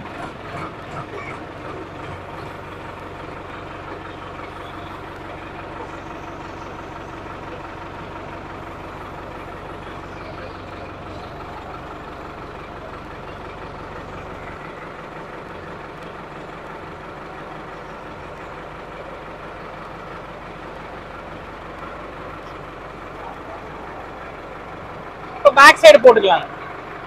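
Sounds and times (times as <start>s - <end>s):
low hydraulic hum: 0.0s - 27.0s
tractor engine running: 0.0s - 27.0s.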